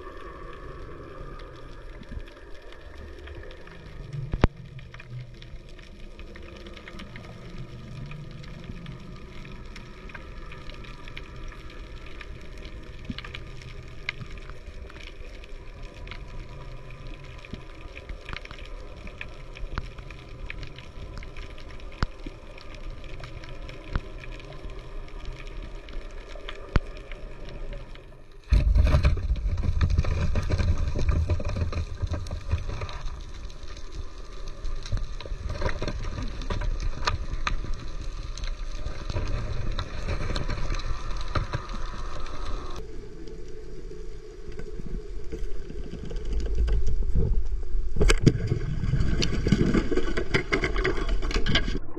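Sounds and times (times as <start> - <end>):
underwater rumble and hiss: 0.0 - 51.9.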